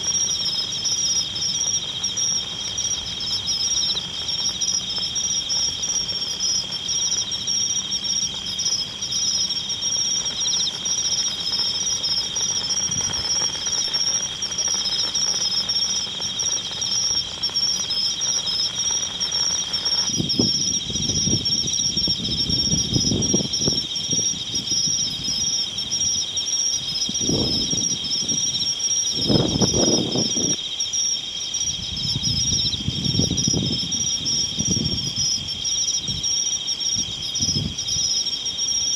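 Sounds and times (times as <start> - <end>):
insects singing: 0.0 - 38.9.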